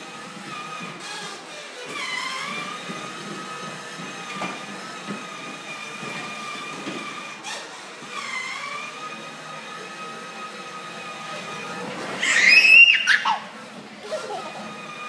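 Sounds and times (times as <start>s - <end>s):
toy car electric motor whine: 0.0s - 15.0s.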